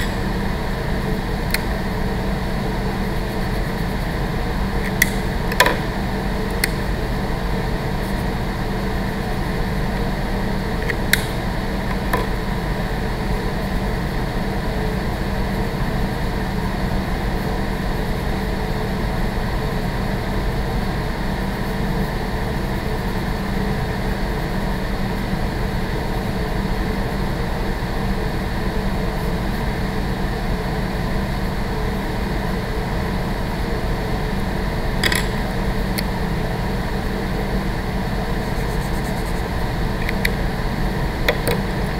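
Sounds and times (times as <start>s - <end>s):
ventilation hum: 0.0s - 41.9s.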